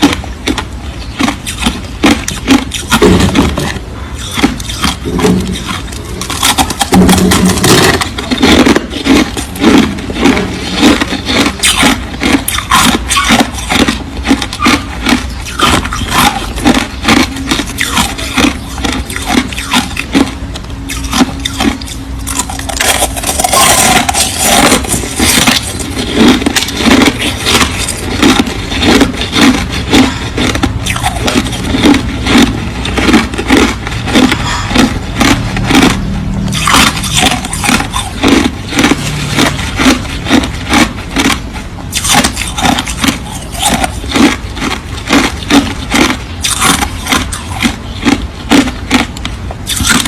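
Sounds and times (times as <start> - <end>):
ice being chewed: 0.0 - 50.0.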